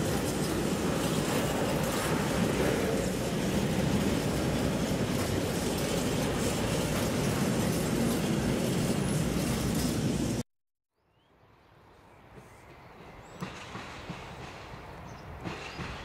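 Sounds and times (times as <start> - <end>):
train wheels on rails: 0.0 - 10.4, 12.2 - 16.0.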